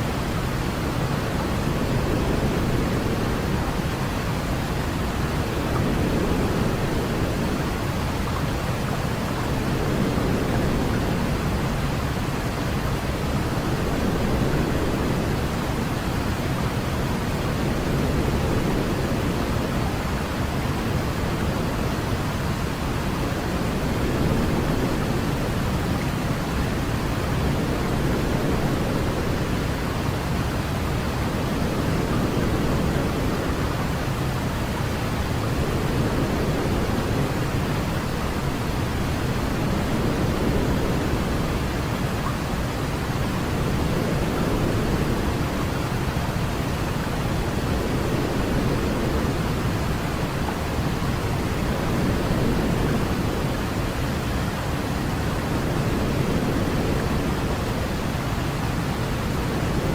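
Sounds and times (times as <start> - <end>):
deep white noise hiss: 0.0 - 59.9.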